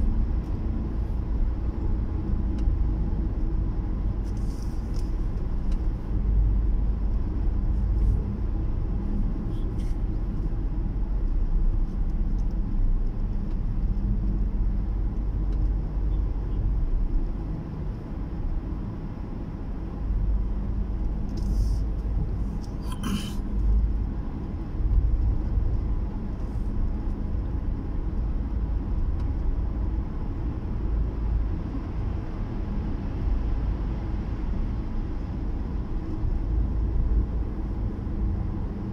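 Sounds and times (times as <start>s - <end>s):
car road rumble from inside: 0.0s - 38.9s.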